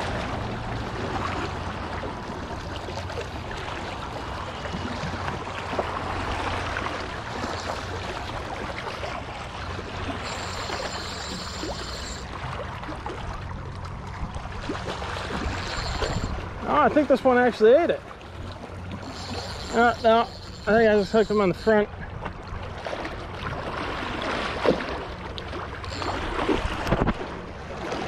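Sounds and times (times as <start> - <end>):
water lapping and trickling: 0.0 - 28.0.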